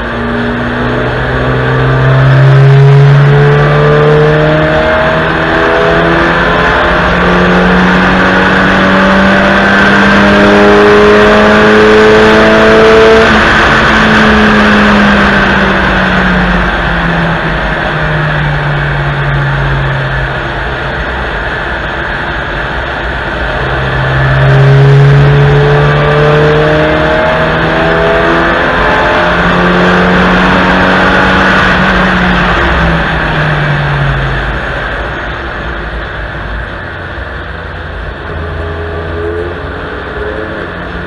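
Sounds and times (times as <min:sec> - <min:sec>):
car engine pulling: 0:00.0 - 0:41.0.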